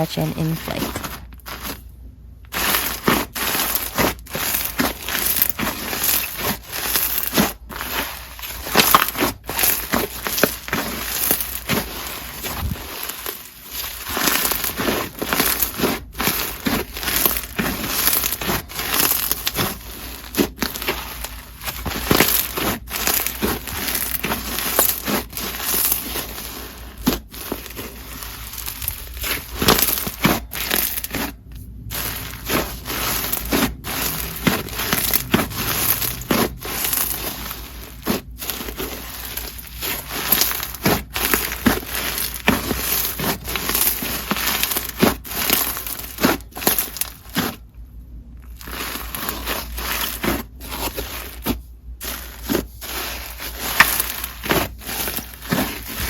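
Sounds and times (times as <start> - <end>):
crunchy slime crackling: 0.0 - 56.0.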